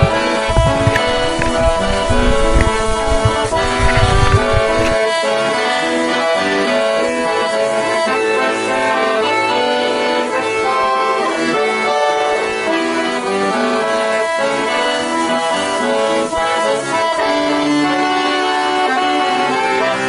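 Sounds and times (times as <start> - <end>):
accordion playing lively tune: 0.0 - 20.0.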